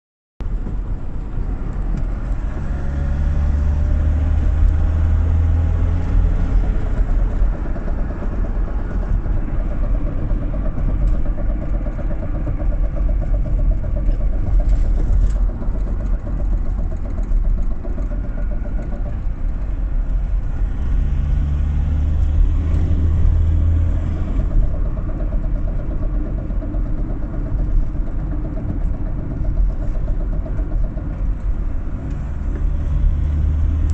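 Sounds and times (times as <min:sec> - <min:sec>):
rhythmic engine knock tapping: 0:00.4 - 0:33.9
van engine running: 0:00.4 - 0:33.9.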